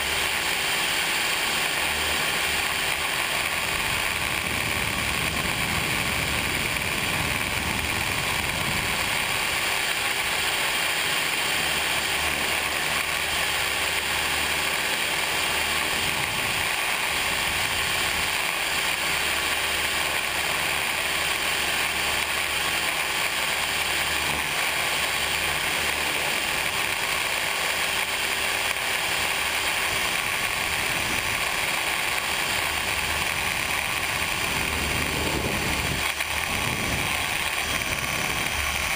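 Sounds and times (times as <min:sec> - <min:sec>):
model helicopter rotors and motor: 0:00.0 - 0:38.9.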